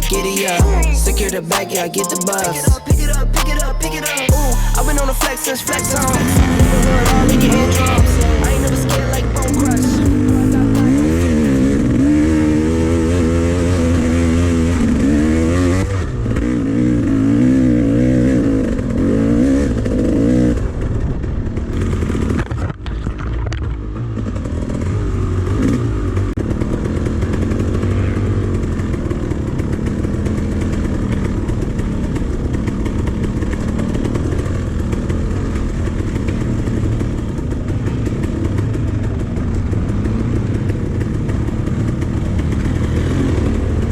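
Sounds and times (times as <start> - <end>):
dirt bike engine revving: 2.4 - 22.5, 23.9 - 43.9.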